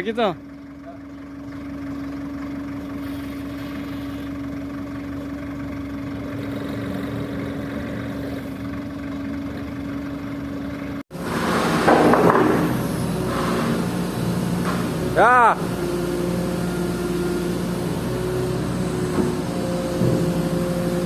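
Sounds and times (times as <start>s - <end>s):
diesel engine idling: 0.0s - 21.0s
rough loud engine: 0.0s - 21.0s.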